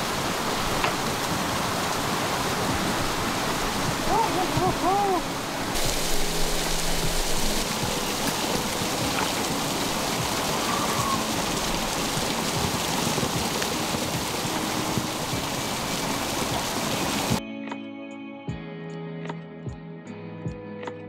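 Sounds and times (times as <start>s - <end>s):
waterfall splashing onto rock: 0.0s - 17.4s.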